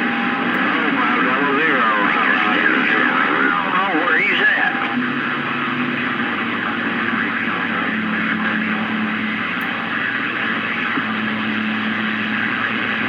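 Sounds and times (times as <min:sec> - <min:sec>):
faint hum tones: 0:00.0 - 0:13.0
radio static hiss: 0:00.0 - 0:13.0.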